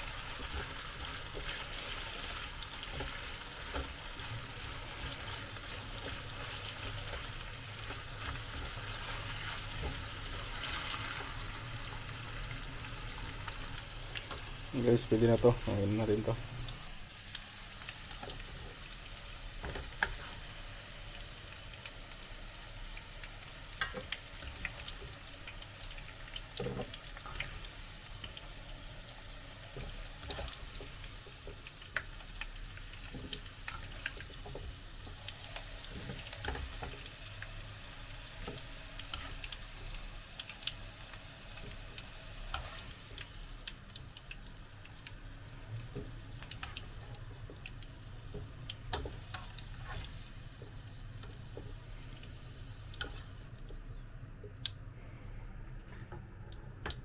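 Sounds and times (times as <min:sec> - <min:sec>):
oil sizzling in a frying pan: 0:00.0 - 0:57.0.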